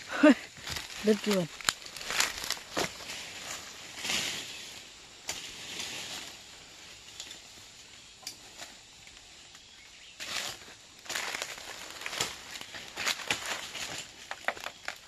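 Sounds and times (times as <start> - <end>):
rustling of dry plant material: 0.0 - 15.0.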